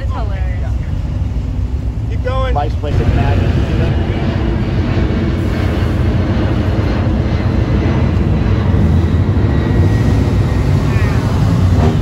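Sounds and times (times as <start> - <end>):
car engines rumbling past: 1.8 - 12.0.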